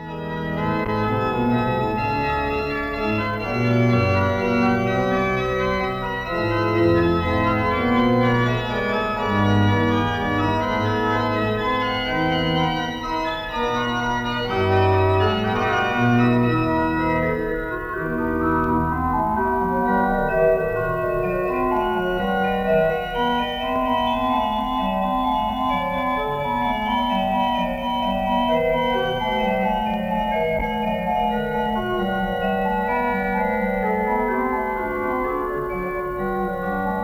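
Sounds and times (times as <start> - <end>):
organ music: 0.0 - 37.0.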